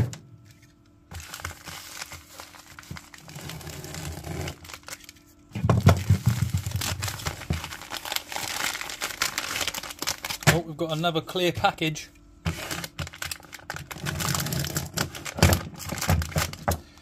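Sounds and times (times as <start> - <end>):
plastic bag crinkling: 1.1 - 11.2, 12.5 - 16.8.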